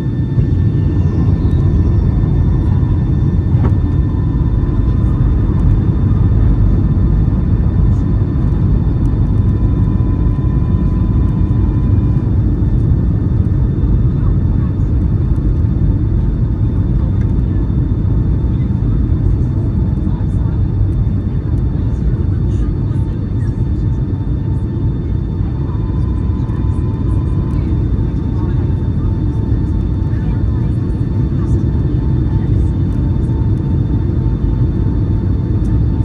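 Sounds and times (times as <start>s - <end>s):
aircraft engine roar in cabin: 0.0s - 36.0s.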